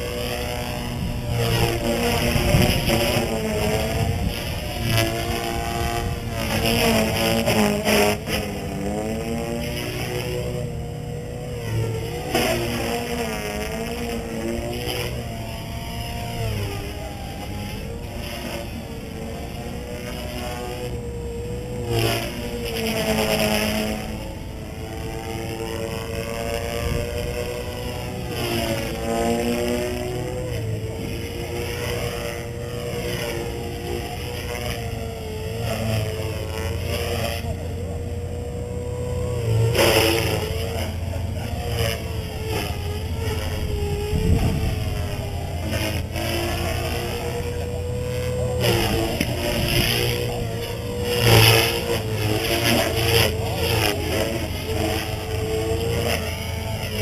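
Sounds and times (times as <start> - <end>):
rc helicopter motor and rotor whine: 0.0 - 57.0.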